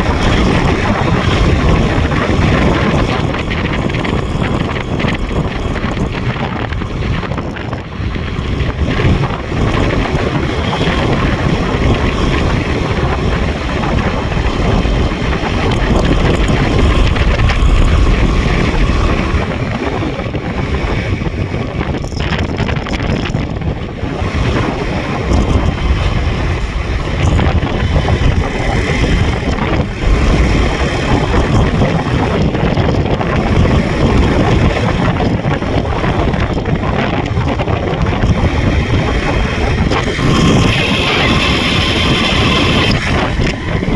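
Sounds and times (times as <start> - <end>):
motorbike engine running: 0.0 - 43.9
wind buffeting microphone: 0.0 - 43.9.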